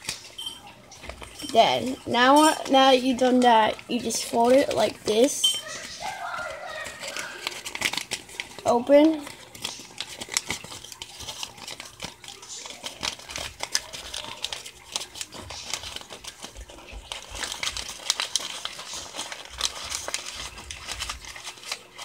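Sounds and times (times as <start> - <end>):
paper crinkling: 0.0 - 22.0.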